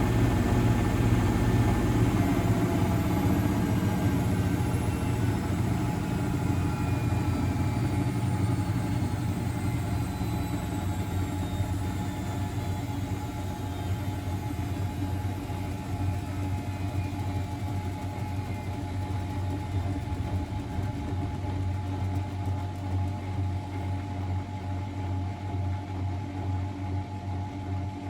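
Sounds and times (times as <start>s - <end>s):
drum whine gliding down: 0.0s - 24.8s
washing machine humming: 0.0s - 26.3s.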